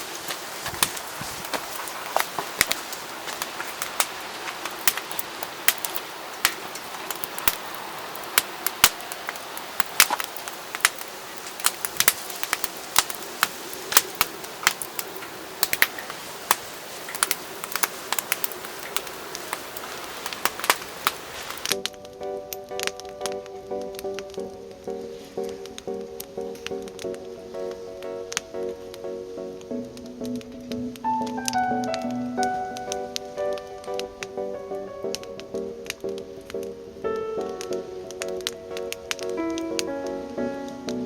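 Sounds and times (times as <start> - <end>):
steady fire hiss: 0.0 - 41.0
wood fire crackling and popping: 0.0 - 41.0.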